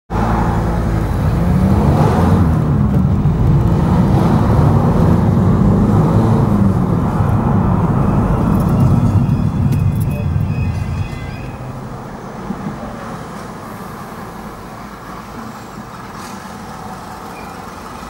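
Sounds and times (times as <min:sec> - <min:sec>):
car engine and tyre drone: 0:00.1 - 0:18.0.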